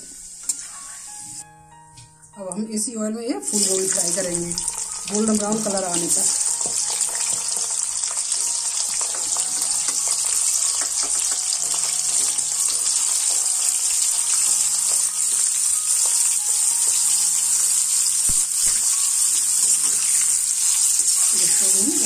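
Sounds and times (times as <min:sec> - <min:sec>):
vegetables sizzling in hot oil: 0:03.4 - 0:22.0.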